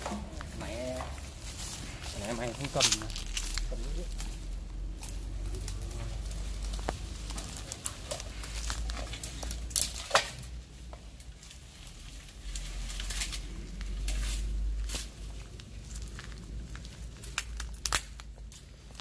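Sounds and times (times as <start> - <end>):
dry leaves rustling and crackling: 0.0 - 19.0.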